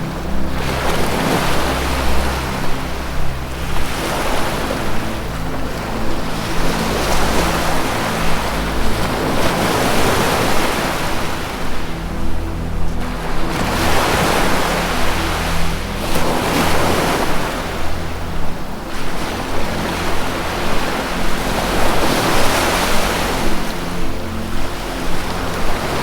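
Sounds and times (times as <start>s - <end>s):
low droning music tones: 0.0s - 26.0s
ocean waves washing ashore: 0.0s - 26.0s.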